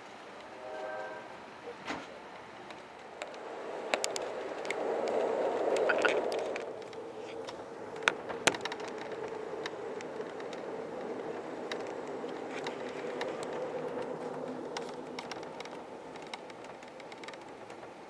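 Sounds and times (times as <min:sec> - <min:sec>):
sharp clicks of train: 0:00.0 - 0:18.0
train rolling hum: 0:00.0 - 0:18.0.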